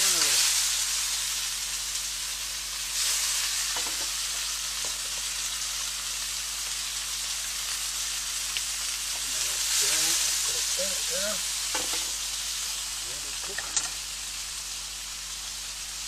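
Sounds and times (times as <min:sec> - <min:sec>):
food sizzling in a hot pan: 0:00.0 - 0:16.0.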